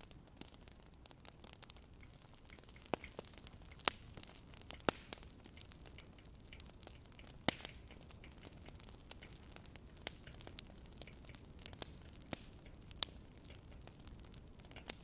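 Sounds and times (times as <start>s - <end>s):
firewood crackling: 0.0s - 15.0s
low steady hiss: 0.0s - 15.0s.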